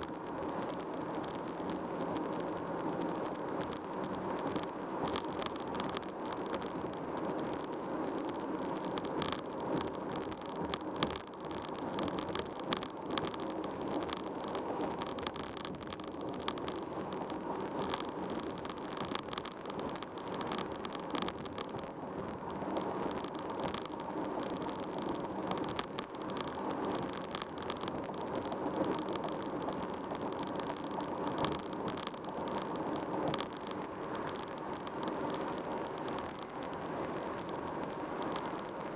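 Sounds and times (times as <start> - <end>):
car road and tyre noise: 0.0 - 38.9.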